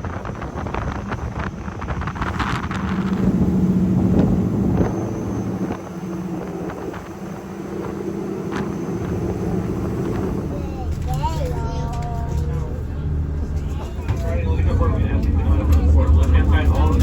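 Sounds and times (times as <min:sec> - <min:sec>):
vehicle engine hum: 0:00.0 - 0:17.0
wind buffeting microphone: 0:00.0 - 0:17.0.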